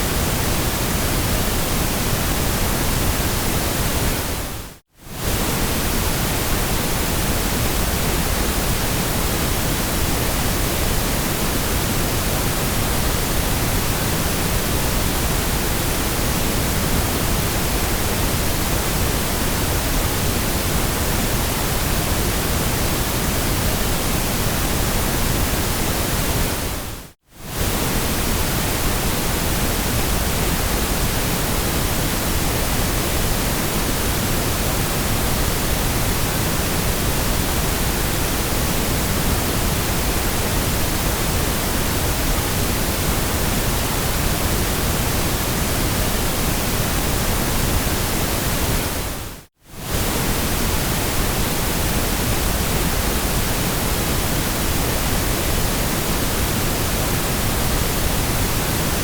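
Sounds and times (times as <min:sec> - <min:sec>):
synthetic white noise hiss: 0:00.0 - 0:59.0.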